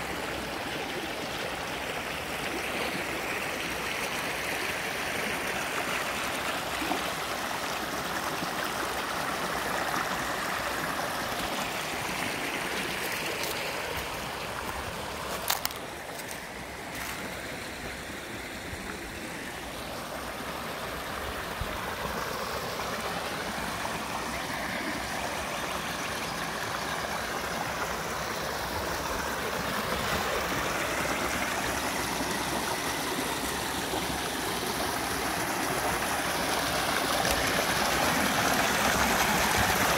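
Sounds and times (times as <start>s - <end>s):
creek water splashing over rocks: 0.0s - 39.9s.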